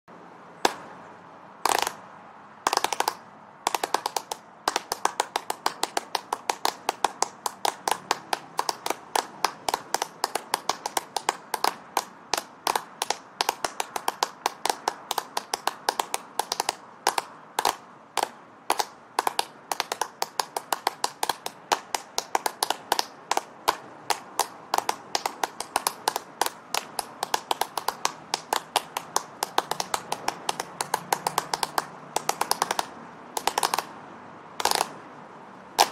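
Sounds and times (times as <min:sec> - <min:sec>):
people clapping hands: 0:01.7 - 0:02.0, 0:02.7 - 0:33.9, 0:34.6 - 0:35.0.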